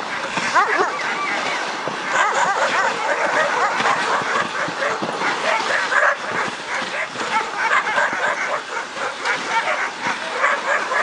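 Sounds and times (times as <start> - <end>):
dogs barking and yipping: 0.5 - 11.0.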